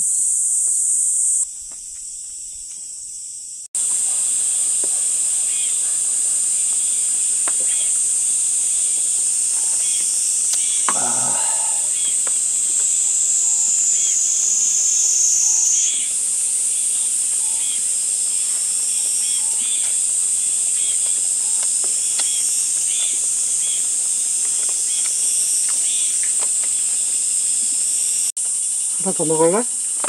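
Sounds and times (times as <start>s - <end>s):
crickets and insects trilling: 0.0s - 30.0s.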